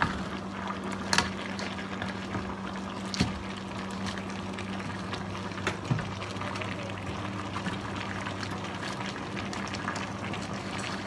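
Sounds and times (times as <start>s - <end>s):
liquid simmering and bubbling: 0.0s - 11.0s.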